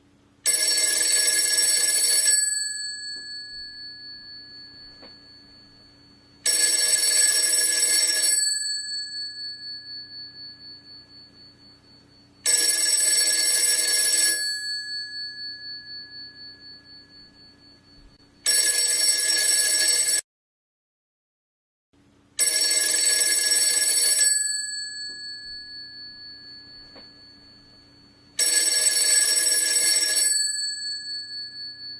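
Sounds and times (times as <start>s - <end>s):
telephone bell ringing: 0.4s - 20.2s, 22.4s - 31.9s.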